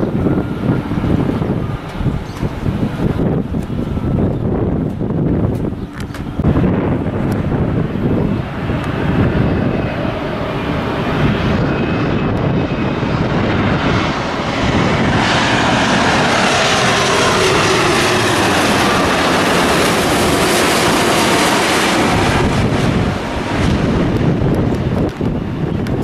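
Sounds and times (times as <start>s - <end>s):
jet engines rushing overhead: 0.0s - 26.0s.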